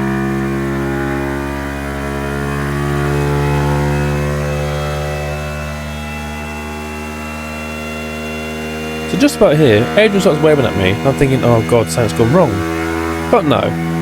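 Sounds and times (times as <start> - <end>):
motorcycle engine at high revs: 0.0 - 14.0.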